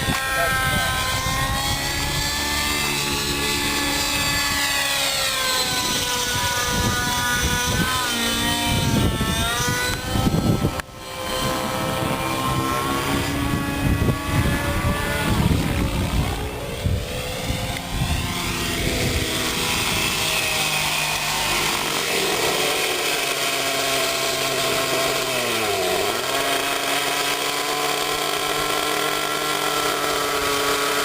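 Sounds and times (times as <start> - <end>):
rc helicopter engine whine: 0.0 - 31.0.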